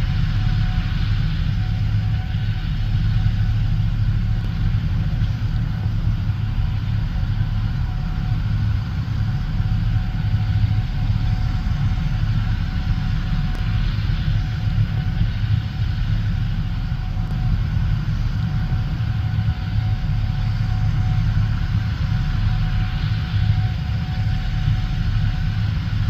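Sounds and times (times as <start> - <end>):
diesel engine drone: 0.0 - 26.0
faint steady whine: 0.0 - 26.0.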